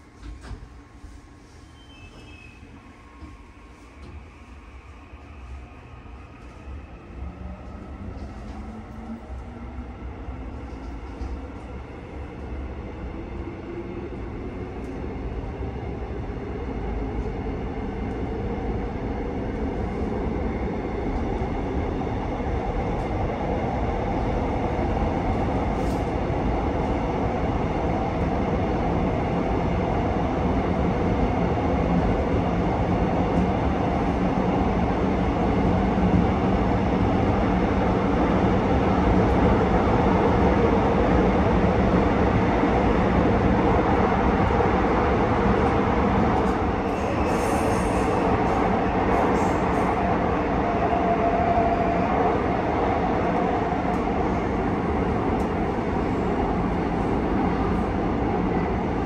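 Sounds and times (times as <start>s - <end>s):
train wheels rumbling on rail: 6.3s - 59.0s.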